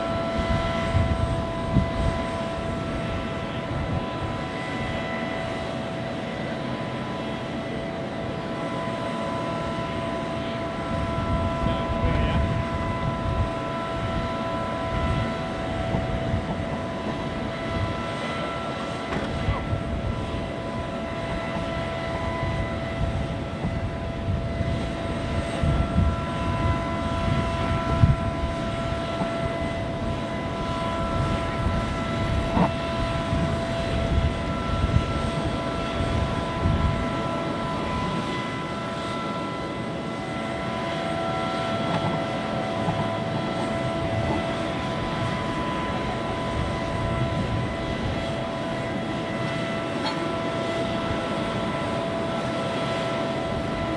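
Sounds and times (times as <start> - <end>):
jet turbines idling: 0.0 - 53.9.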